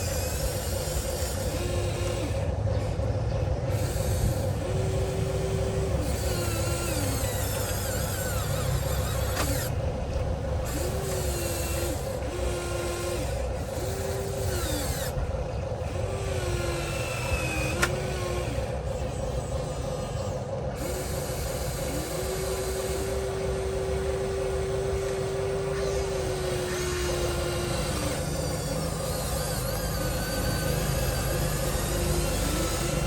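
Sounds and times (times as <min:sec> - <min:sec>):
electric hydraulic pump whine: 0:00.0 - 0:33.0
steady mechanical hum: 0:00.0 - 0:33.0.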